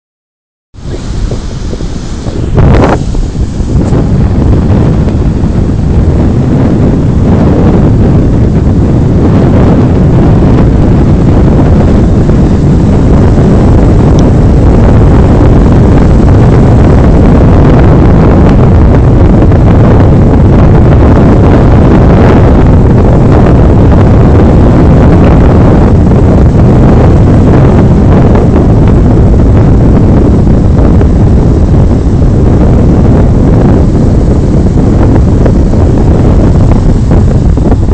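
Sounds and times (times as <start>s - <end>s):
wind buffeting microphone: 0.7s - 37.9s
surf breaking on beach: 0.8s - 37.9s.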